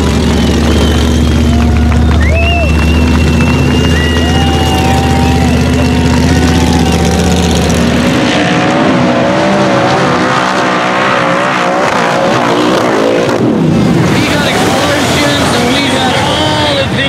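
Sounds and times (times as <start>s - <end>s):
buggy engine running hard: 0.0s - 17.0s.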